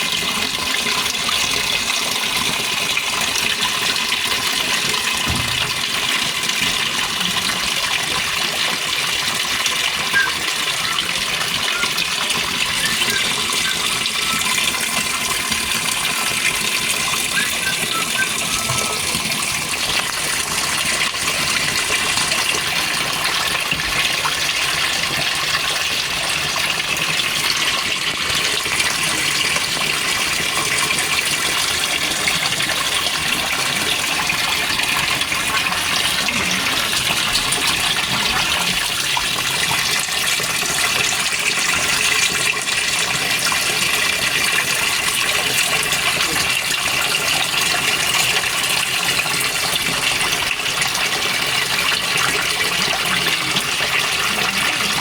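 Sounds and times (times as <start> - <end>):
water rushing into washer tub: 0.0 - 55.0.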